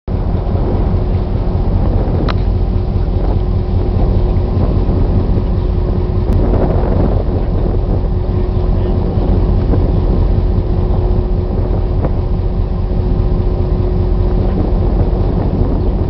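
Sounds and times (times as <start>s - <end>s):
diesel locomotive engine running: 0.1s - 16.0s.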